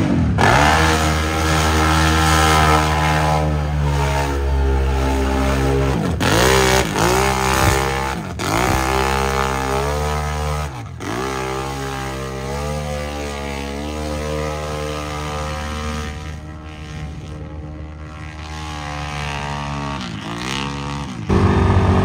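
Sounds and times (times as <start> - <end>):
engine revving at high revs: 0.0 - 22.0.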